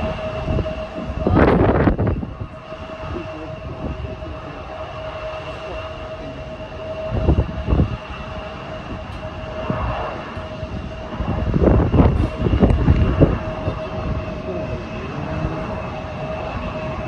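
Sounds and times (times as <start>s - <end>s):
jet engines whining: 0.0s - 17.0s
low rumbling surges: 0.0s - 17.0s.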